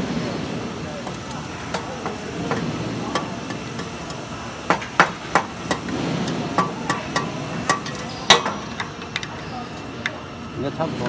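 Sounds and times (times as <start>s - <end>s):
workshop background noise: 0.0s - 11.0s.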